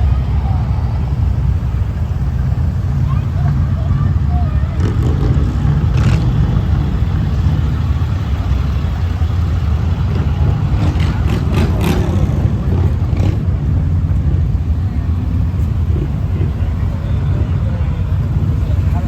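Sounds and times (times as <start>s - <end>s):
motorcycle engines rumbling: 0.0s - 19.0s.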